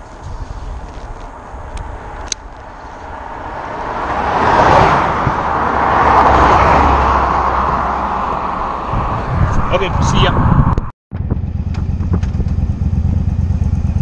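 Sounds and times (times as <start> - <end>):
vehicle passing: 0.2 - 14.0.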